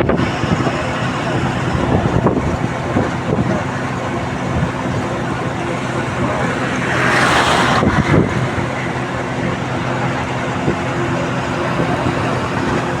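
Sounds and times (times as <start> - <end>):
engine hum: 0.0 - 13.0
road rushing noise: 0.0 - 13.0.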